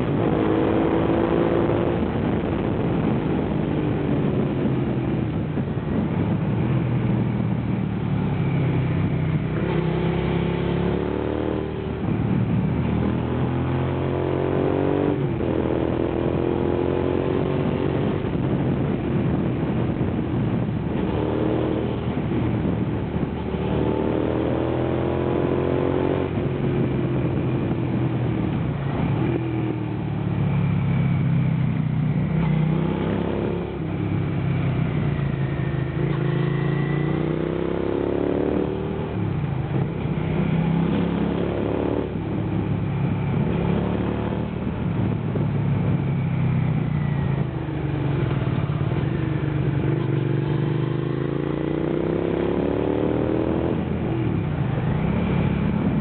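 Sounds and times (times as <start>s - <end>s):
motorcycle engine revving: 0.0s - 6.9s, 8.1s - 56.0s.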